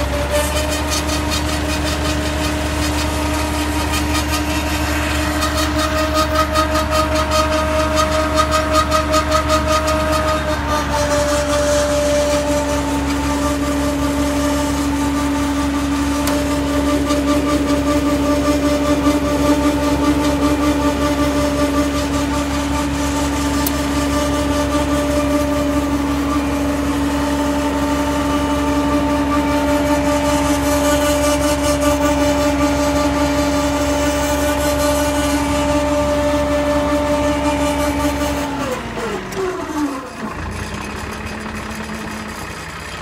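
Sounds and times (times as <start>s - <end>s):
generator whine: 0.0s - 43.0s
tractor engine running: 0.0s - 43.0s.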